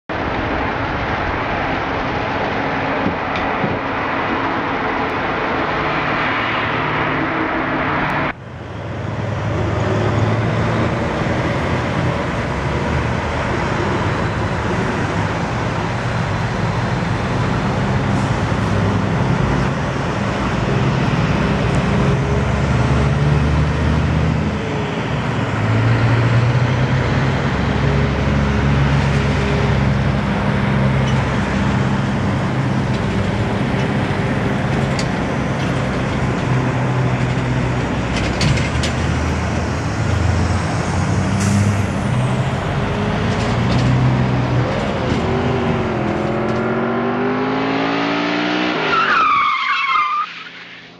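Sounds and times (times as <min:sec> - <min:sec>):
trucks and cars passing: 0:00.1 - 0:50.9.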